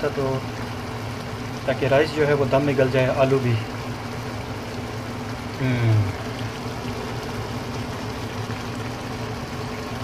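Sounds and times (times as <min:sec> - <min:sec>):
rice bubbling in a pot: 0:00.0 - 0:10.0
steady low hum: 0:00.0 - 0:10.0.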